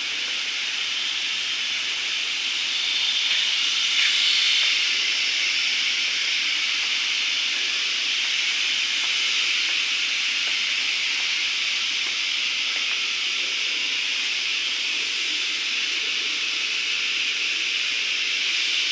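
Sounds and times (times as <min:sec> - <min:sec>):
woodworking machine hissing: 0:00.0 - 0:18.9.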